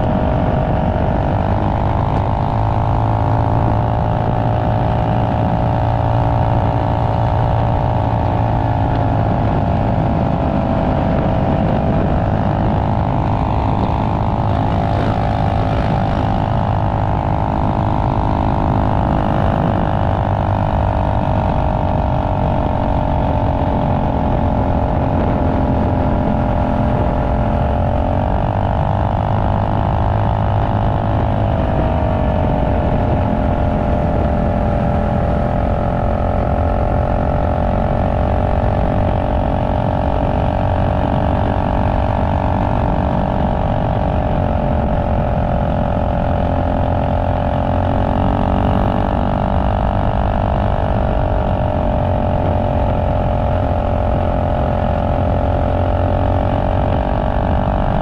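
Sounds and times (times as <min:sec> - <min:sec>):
minibike engine at high revs: 0:00.0 - 0:58.0.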